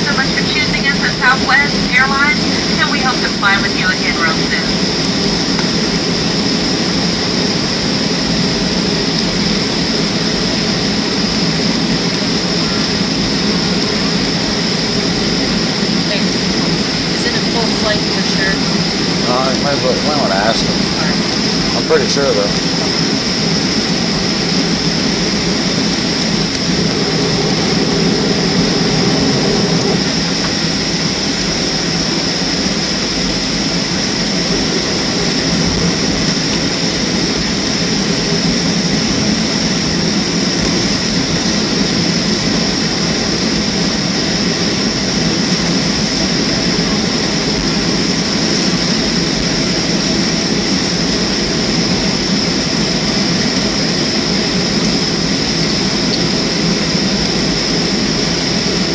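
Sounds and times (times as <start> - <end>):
jet engines idling: 0.0 - 58.9.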